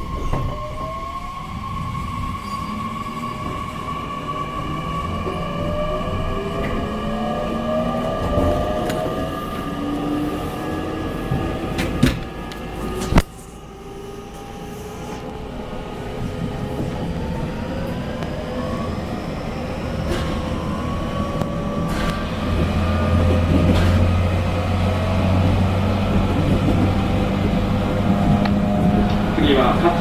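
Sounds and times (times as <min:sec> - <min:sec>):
traction motor whine: 0:00.0 - 0:30.0
train rumble: 0:00.0 - 0:30.0.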